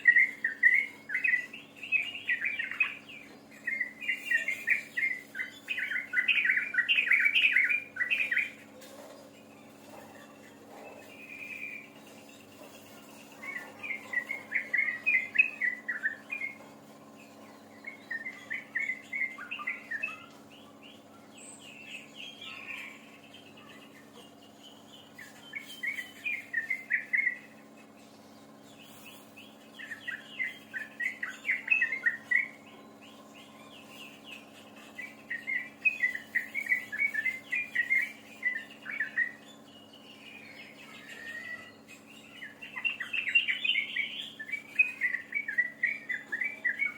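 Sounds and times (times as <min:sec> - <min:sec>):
low electrical hum: 0:00.0 - 0:46.9
songbird chattering chirps: 0:00.0 - 0:46.9.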